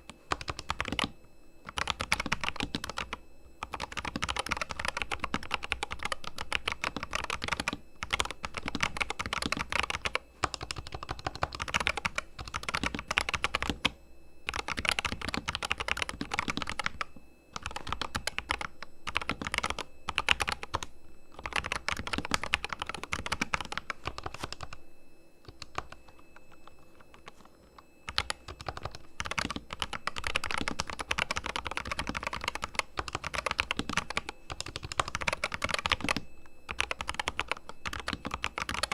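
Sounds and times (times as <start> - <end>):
fast mechanical keyboard typing: 0.3 - 1.1, 1.7 - 13.9, 14.5 - 17.0, 17.6 - 24.7, 25.6 - 27.2, 28.1 - 38.9.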